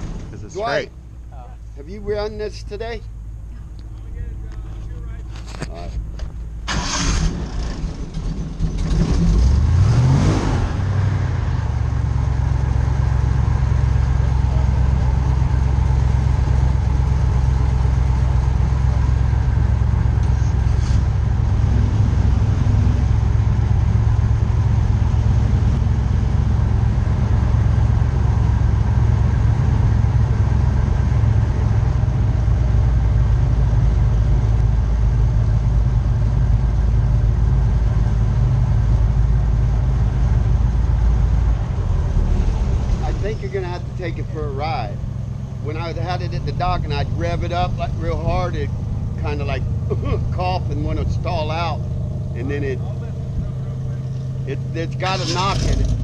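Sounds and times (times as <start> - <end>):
airboat engine running: 10.8 - 56.0.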